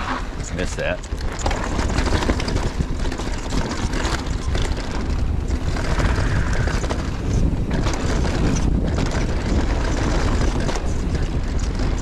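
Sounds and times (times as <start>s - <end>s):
bike rattling: 0.0s - 12.0s
tyres rolling over dirt trail: 0.0s - 12.0s
wind rumbling on microphone: 0.0s - 12.0s.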